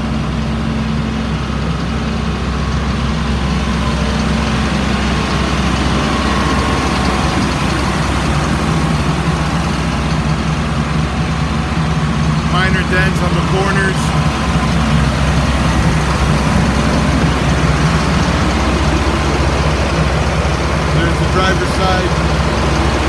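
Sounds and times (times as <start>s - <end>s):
bus diesel engine idling: 0.0s - 23.0s.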